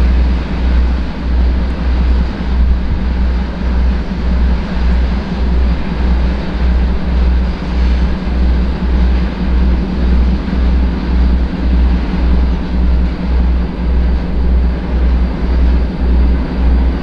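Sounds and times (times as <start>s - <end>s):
diesel locomotive engine throbbing: 0.0s - 17.0s
train rumble: 0.0s - 17.0s.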